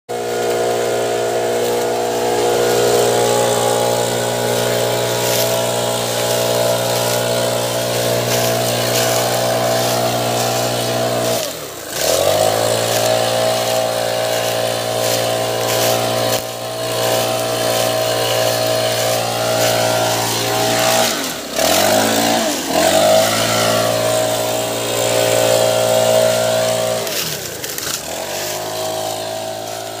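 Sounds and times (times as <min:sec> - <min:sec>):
leaf blower engine running: 0:00.1 - 0:30.0.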